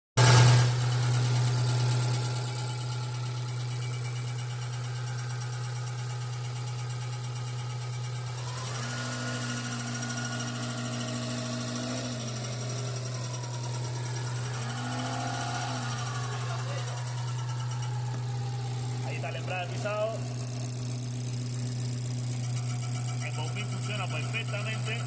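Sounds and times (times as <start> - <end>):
mechanical whir from clutch: 0.2 - 5.4, 7.5 - 24.5
whining tone: 0.2 - 25.0
car engine idling: 0.4 - 25.0.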